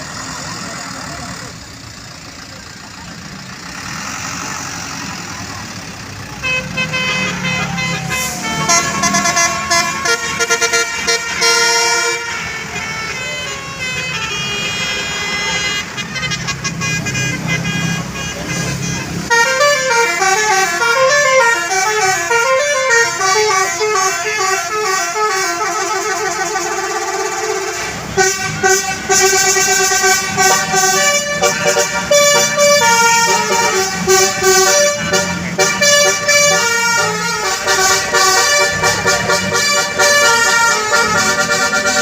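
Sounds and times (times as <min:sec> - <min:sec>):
musical bus air horn melody: 0:06.2 - 0:42.0.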